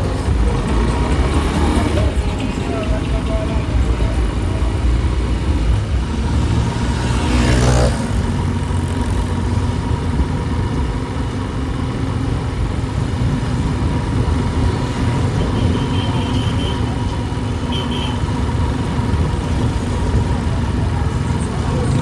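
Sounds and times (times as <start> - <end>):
motorcycle engine running: 0.0 - 22.0
street traffic noise: 0.0 - 22.0.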